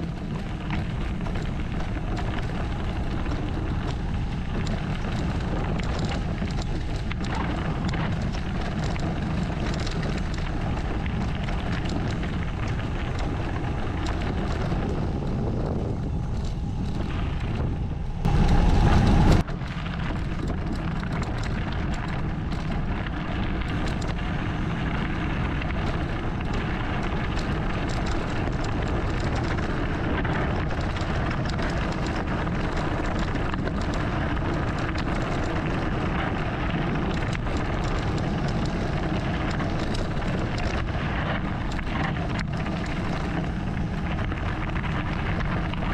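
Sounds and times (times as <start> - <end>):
bike rattles and clicks: 0.0 - 45.9
bike tyres rumbling on gravel: 0.0 - 45.9
loud low rumble: 0.0 - 45.9
wind rushing over microphone: 0.0 - 45.9.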